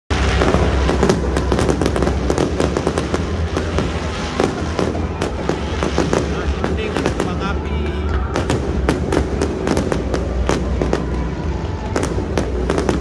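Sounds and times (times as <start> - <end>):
fireworks bangs and crackles: 0.1 - 13.0
steady low rumble: 0.1 - 13.0.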